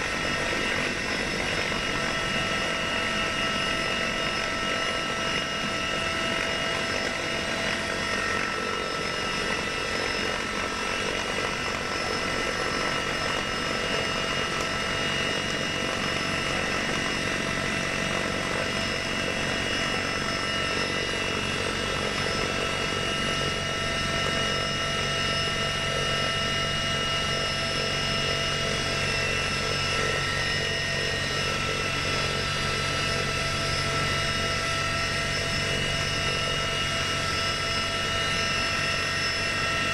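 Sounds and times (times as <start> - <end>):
helicopter engines and rotor drone: 0.0 - 39.9.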